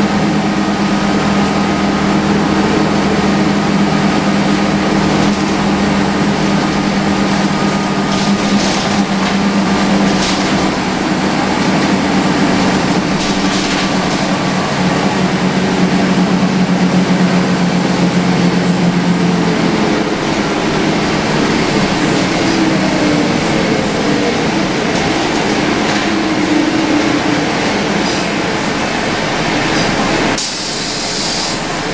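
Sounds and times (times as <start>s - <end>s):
bus body rattles: 0.0s - 31.9s
bus diesel engine: 0.0s - 31.9s
loud air-conditioning blowing: 0.0s - 31.9s
steady drone: 0.0s - 31.9s.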